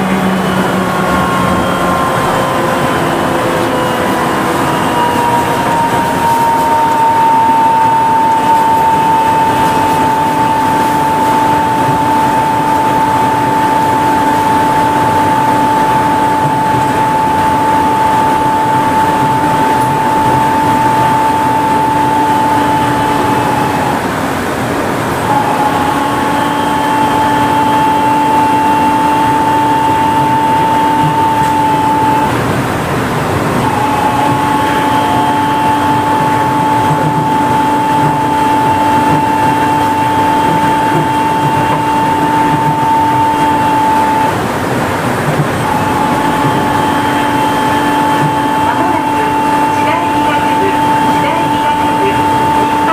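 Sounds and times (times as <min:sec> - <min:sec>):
high electric drive whine: 0:00.0 - 0:52.9
train running rumble: 0:00.0 - 0:52.9.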